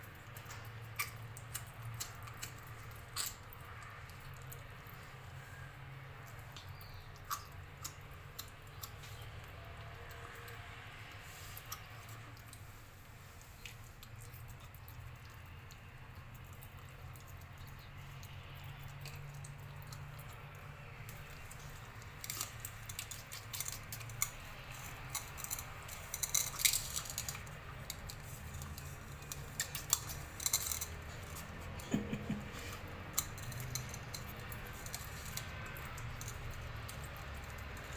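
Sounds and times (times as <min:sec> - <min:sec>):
kitten chewing: 0:00.0 - 0:37.9.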